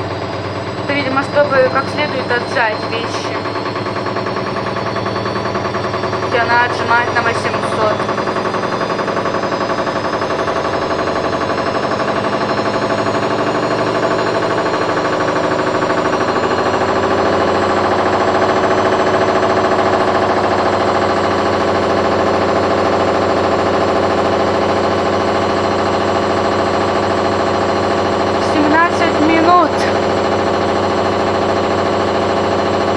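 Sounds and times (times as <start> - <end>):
washing machine spinning: 0.0 - 32.9.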